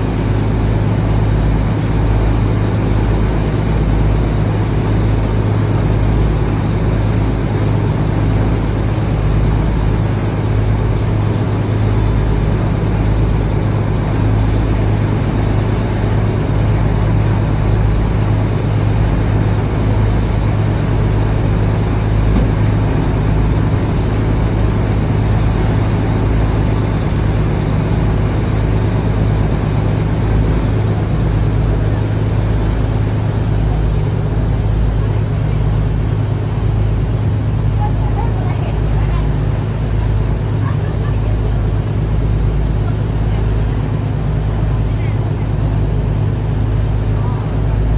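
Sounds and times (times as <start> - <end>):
faint high whine: 0.0 - 47.9
ship engine droning: 0.0 - 47.9.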